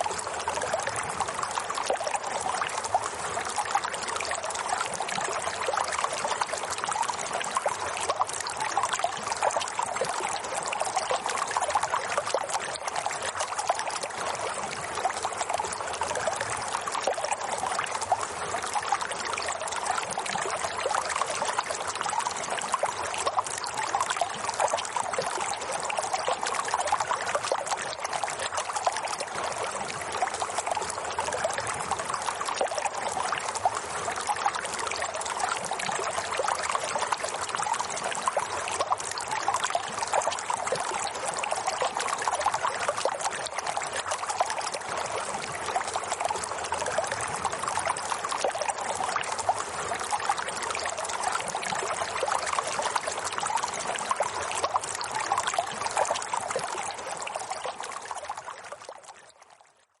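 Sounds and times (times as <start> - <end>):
running water trickling: 0.0 - 59.6.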